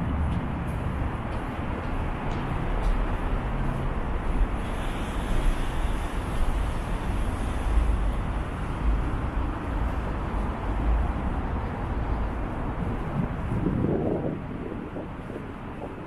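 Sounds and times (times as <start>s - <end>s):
low traffic rumble: 0.0s - 16.0s
road traffic noise: 0.0s - 16.0s.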